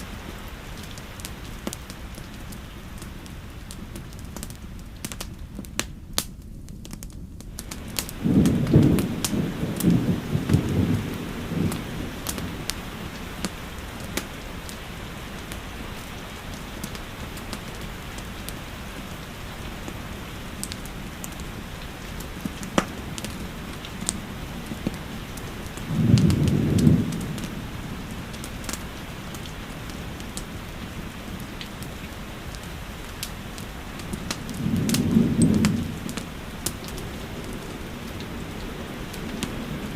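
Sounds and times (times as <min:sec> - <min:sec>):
steady rainfall: 0:00.0 - 0:39.9
wood fire crackling: 0:00.0 - 0:39.9
thunder rumbling: 0:07.6 - 0:39.9.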